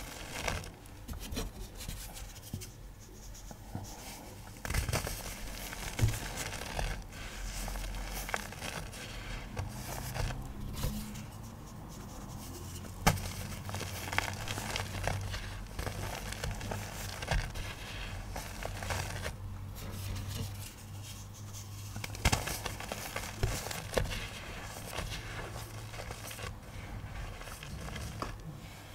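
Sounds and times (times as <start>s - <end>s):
chalky blocks crumbling and crackling: 0.0s - 2.0s, 4.4s - 11.3s, 12.9s - 20.8s, 21.6s - 28.9s.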